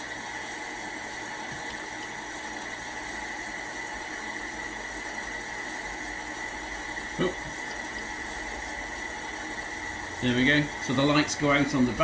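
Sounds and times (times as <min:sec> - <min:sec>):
model train engine drone: 0:00.0 - 0:12.0.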